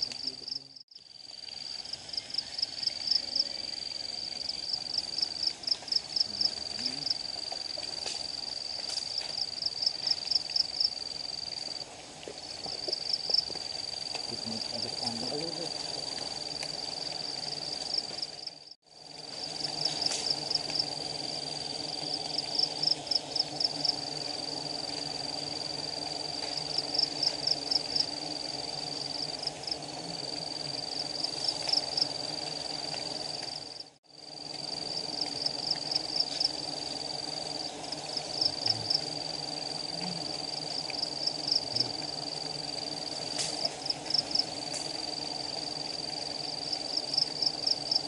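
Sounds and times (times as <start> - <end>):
bees humming as a swarm: 0.0 - 48.0
high-pitched insect whine: 0.0 - 48.0.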